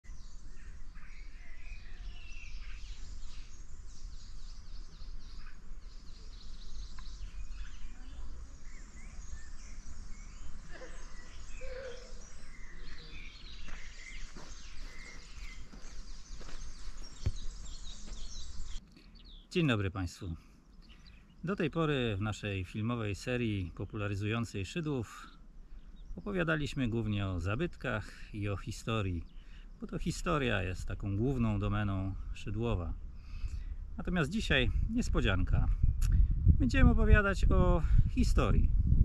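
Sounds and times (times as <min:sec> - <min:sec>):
birds singing and chirping: 0:00.0 - 0:39.0.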